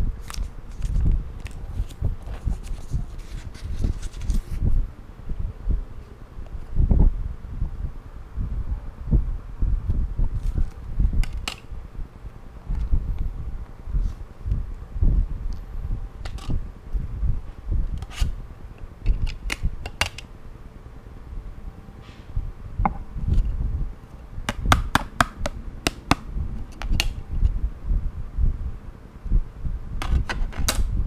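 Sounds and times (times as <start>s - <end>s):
microphone handling rumble: 0.0s - 18.5s, 22.3s - 24.8s, 26.3s - 31.0s.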